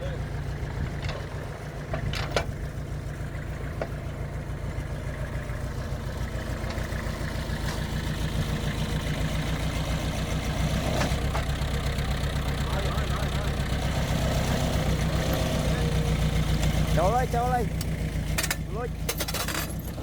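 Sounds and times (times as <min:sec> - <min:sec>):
heavy diesel engine idling: 0:00.0 - 0:20.0.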